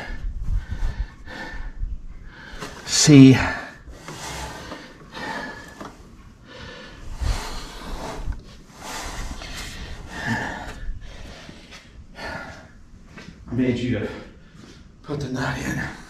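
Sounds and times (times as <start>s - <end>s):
man breathing hard: 0.0s - 13.4s, 14.0s - 15.0s.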